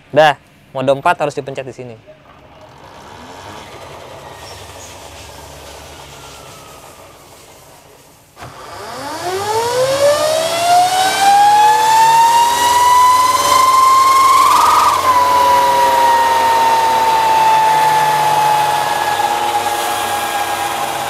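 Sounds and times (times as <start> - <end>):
faint falling whine: 2.0 - 21.0
electric motor whine rising: 2.3 - 21.0.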